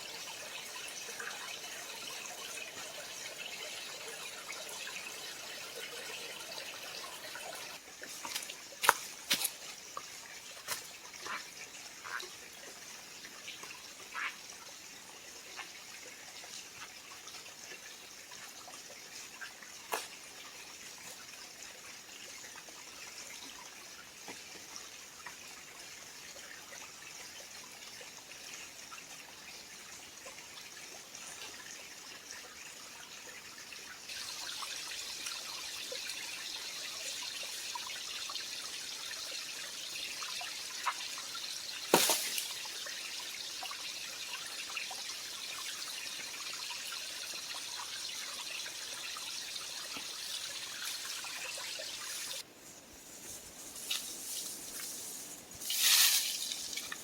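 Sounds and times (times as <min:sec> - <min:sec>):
creek water trickling: 0:00.0 - 0:57.0.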